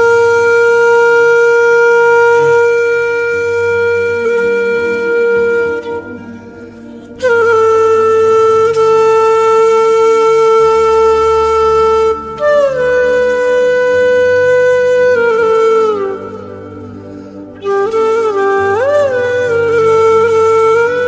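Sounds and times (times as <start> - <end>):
flute-like wind instrument: 0.0 - 21.0
low sustained drone: 0.0 - 21.0.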